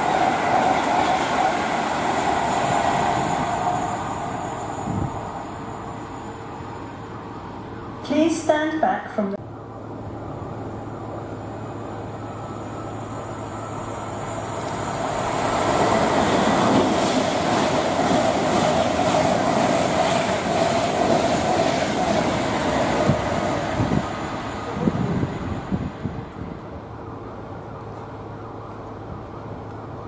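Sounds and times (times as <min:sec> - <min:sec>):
train running past: 0:00.0 - 0:08.8, 0:09.4 - 0:30.0.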